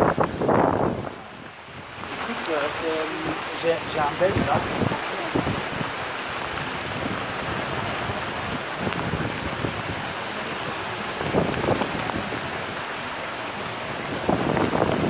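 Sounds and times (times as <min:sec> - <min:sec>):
hail pattering on pavement: 0:00.0 - 0:15.0.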